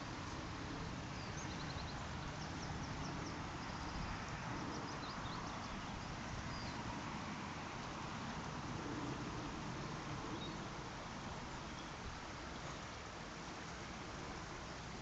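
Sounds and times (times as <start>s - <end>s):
open-air hiss: 0.0s - 15.0s.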